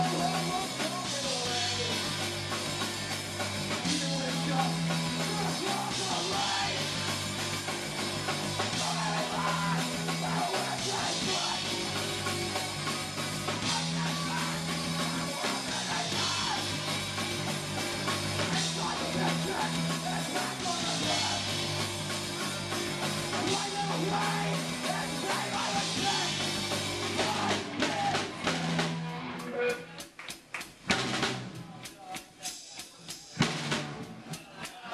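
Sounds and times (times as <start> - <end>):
punk rock band playing: 0.0 - 34.9.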